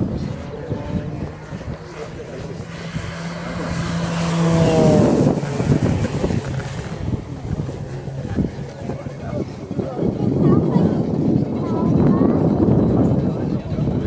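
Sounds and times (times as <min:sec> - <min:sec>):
model airplane passing: 0:00.0 - 0:14.0.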